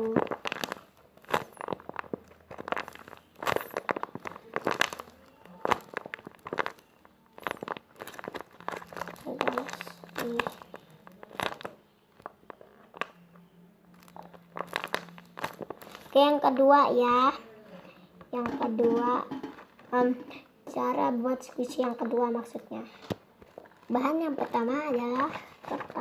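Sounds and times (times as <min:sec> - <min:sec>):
plastic bag crinkling: 0:00.0 - 0:17.3, 0:21.6 - 0:26.0.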